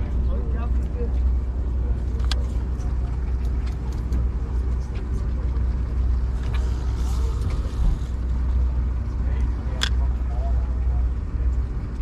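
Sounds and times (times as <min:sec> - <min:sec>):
boat engine low drone: 0:00.0 - 0:12.0.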